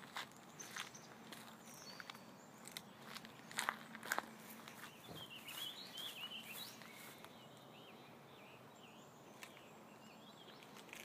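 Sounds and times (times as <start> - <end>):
small birds chirping: 0.3 - 11.0.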